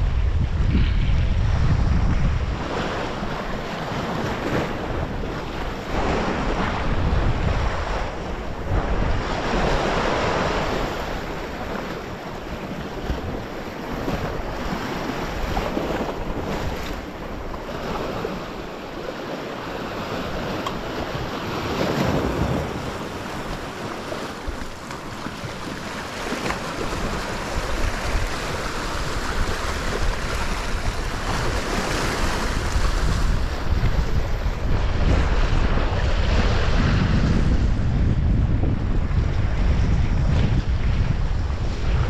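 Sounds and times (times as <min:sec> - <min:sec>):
wind buffeting microphone: 0:00.0 - 0:42.0
waves breaking against rocks: 0:00.2 - 0:42.0.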